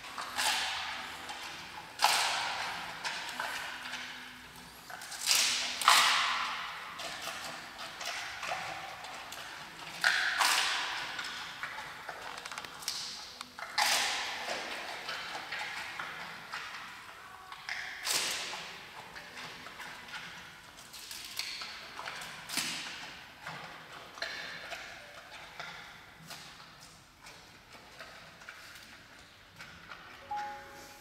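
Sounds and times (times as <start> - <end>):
chewing crunches: 0.0 - 30.0
panda crunching bamboo: 0.0 - 30.2.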